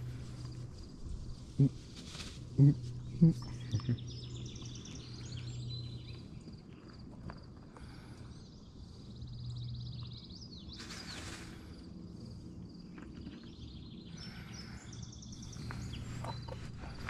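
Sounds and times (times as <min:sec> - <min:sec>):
songbirds singing: 0:00.0 - 0:17.0
steady low hum: 0:00.0 - 0:17.0.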